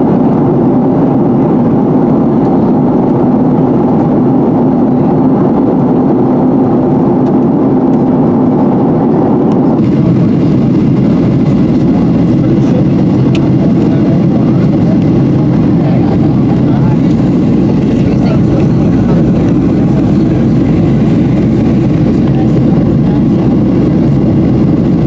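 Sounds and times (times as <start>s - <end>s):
airplane cabin engine drone: 0.0s - 25.0s.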